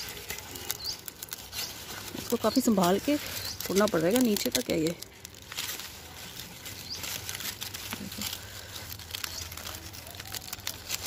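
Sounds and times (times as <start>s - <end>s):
corn husk rustling and crackling: 0.0s - 11.0s.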